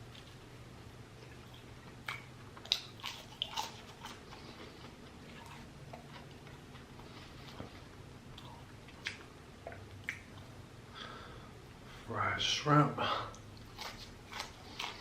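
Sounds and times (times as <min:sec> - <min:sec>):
chewing and crunching fried food: 0:00.0 - 0:10.8, 0:13.2 - 0:15.0
faint low hum: 0:00.0 - 0:15.0.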